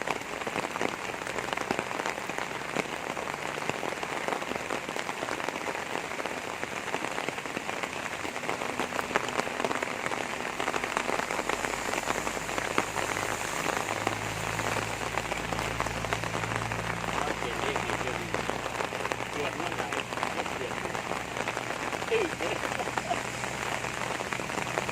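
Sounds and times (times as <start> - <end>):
rain pattering: 0.0 - 24.9.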